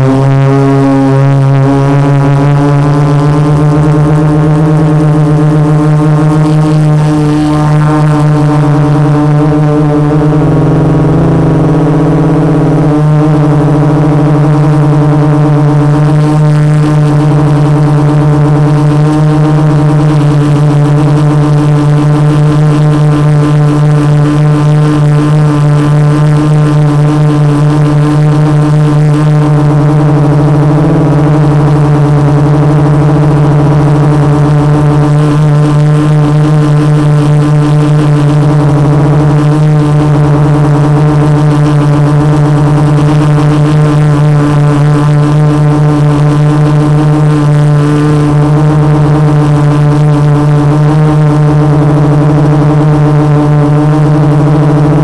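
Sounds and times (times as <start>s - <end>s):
quadcopter motors humming: 0.0s - 55.0s.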